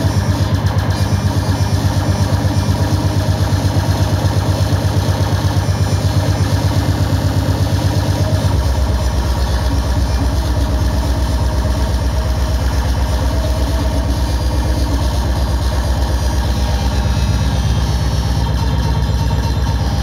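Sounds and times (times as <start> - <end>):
hardcore techno: 0.0 - 20.0.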